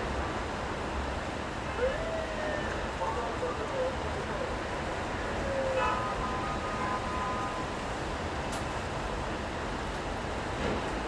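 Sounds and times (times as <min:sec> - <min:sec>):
street traffic on wet road: 0:00.0 - 0:11.0.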